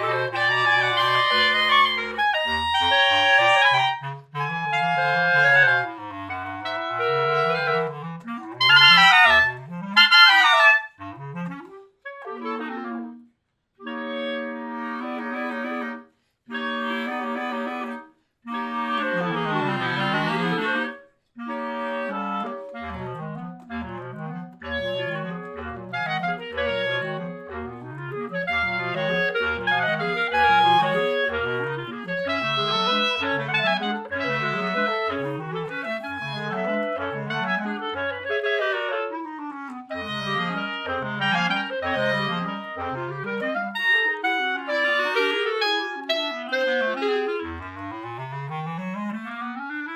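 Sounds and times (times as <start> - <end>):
clarinet quartet playing: 0.0 - 13.1, 13.8 - 49.9.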